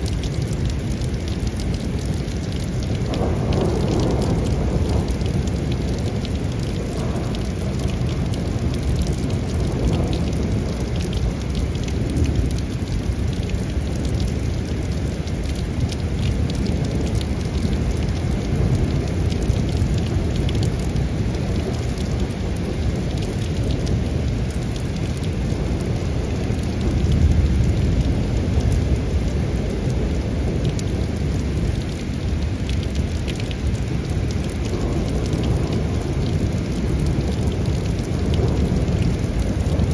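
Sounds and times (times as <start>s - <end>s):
low thunder rumbling: 0.0s - 39.9s
steady rain falling: 0.0s - 39.9s.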